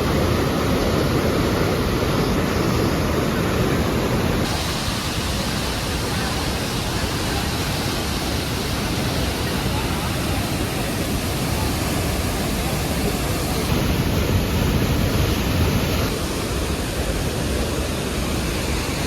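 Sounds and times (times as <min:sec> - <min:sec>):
river and waterfall roaring: 0:00.0 - 0:19.0.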